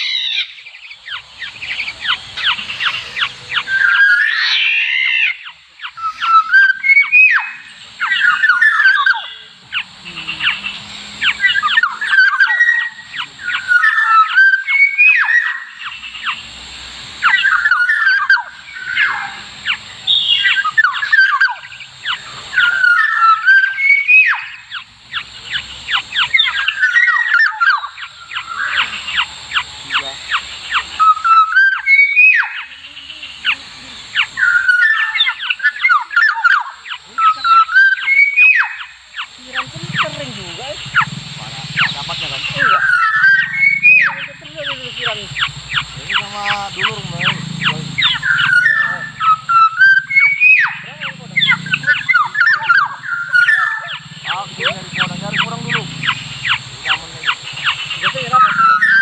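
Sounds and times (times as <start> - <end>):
orioles fluty whistles: 0.0 - 16.4, 17.2 - 39.0, 40.0 - 59.0
harsh rasping bird notes: 0.0 - 16.5, 17.2 - 59.0.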